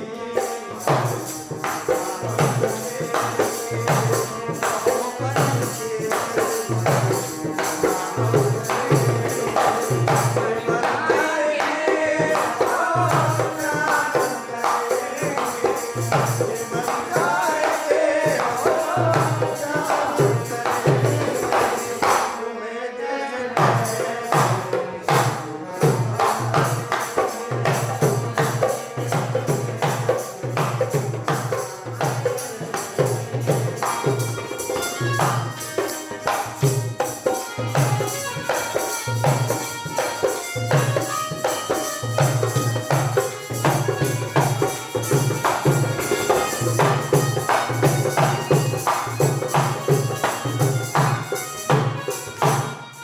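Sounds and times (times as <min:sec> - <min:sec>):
sustained harmonium tones: 0:00.0 - 0:53.0
hand drum beating a rhythm: 0:00.2 - 0:22.4, 0:23.6 - 0:53.0.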